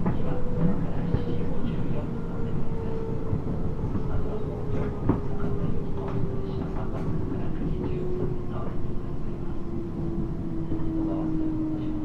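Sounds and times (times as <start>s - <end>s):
train wheel and track rumble: 0.0s - 12.0s.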